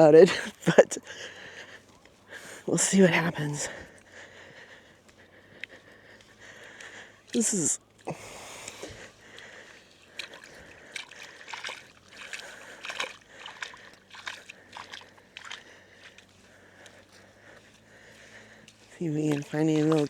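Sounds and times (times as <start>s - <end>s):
footsteps squelching on wet sand: 0.0s - 20.0s.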